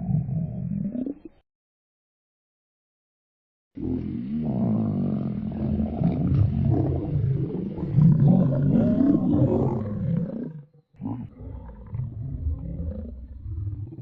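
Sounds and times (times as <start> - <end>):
stomach growling: 0.0 - 1.4, 3.8 - 14.0.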